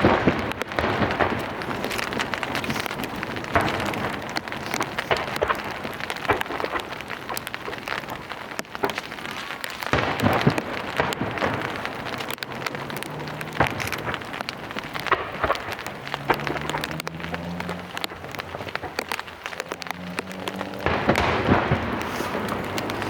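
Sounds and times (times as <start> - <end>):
fireworks crackling and cracking: 0.0 - 23.0
heavy firework bursts: 0.0 - 23.0.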